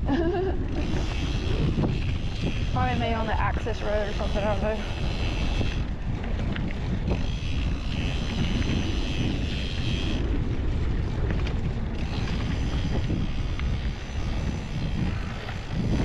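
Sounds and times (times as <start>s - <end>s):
bike tyre rumble on dirt: 0.0s - 16.0s
wind buffeting microphone: 0.0s - 16.0s.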